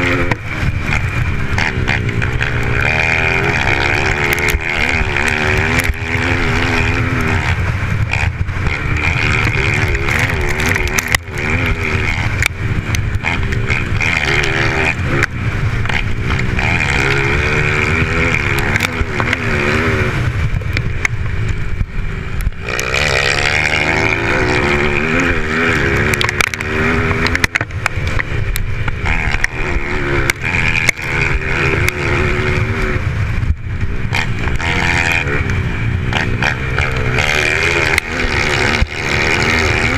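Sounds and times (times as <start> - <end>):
racing motorcycle engines: 0.0 - 39.9.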